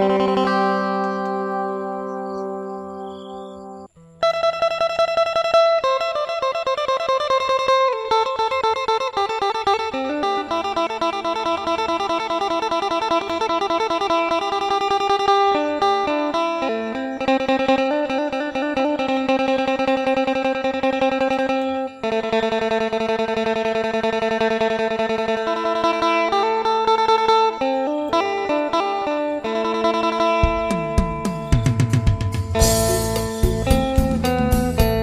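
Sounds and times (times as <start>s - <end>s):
lute picked over drone notes: 0.0s - 35.0s.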